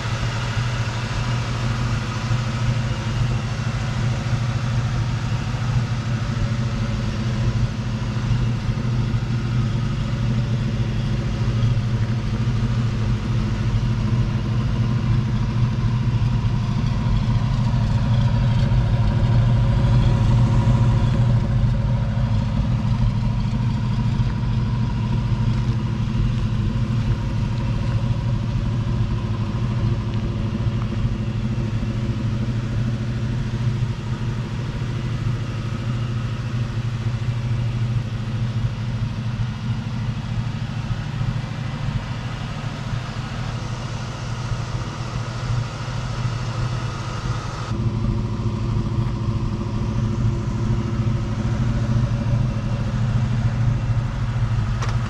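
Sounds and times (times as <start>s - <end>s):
engine idling exhaust rumble: 0.0s - 55.0s.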